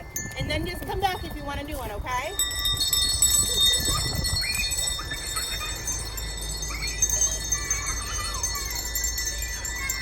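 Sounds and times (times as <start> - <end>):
hand bells ringing: 0.0 - 10.0.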